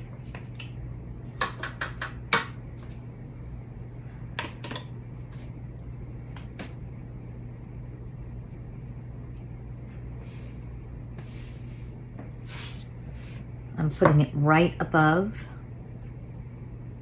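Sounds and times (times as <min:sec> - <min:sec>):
low hum: 0:02.5 - 0:17.0.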